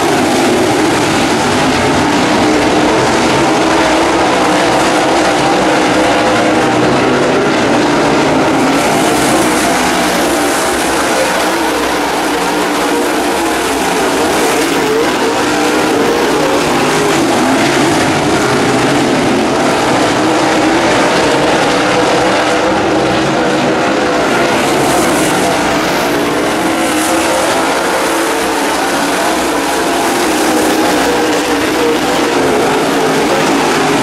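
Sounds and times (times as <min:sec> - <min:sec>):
race car engines at speed: 0:00.0 - 0:34.0.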